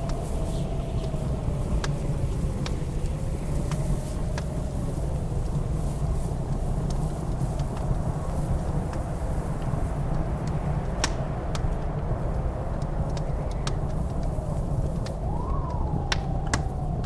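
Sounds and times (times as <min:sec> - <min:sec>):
faint wind howl: 0:00.0 - 0:17.0
low rumble of blizzard wind: 0:00.0 - 0:17.0
wood fire crackling: 0:00.0 - 0:17.0.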